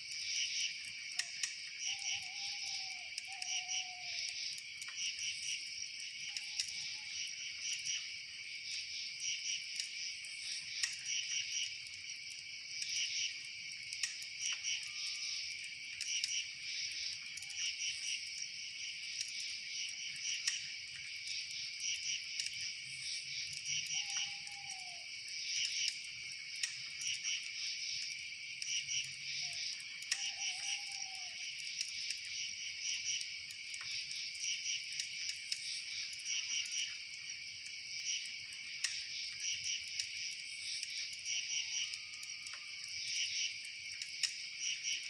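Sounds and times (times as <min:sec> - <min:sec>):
crickets chirping: 0:00.0 - 0:45.0.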